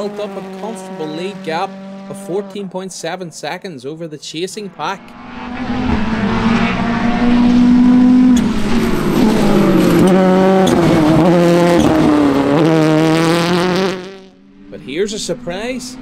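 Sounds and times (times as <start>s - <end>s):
rally car engine revving: 0.0s - 3.4s, 4.5s - 16.0s.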